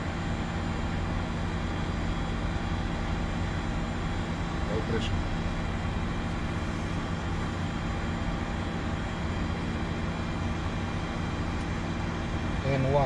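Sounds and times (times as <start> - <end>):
aircraft engine hum and whine: 0.0 - 13.0.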